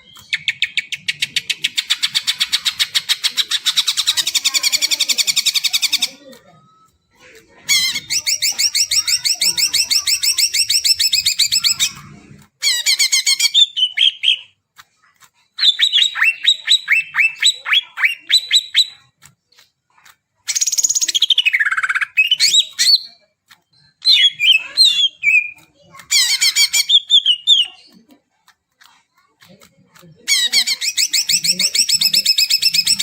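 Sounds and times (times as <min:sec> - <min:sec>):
bird singing varied phrases: 0:00.0 - 0:06.9, 0:07.6 - 0:14.6, 0:15.5 - 0:19.2, 0:20.5 - 0:28.0, 0:30.3 - 0:33.0.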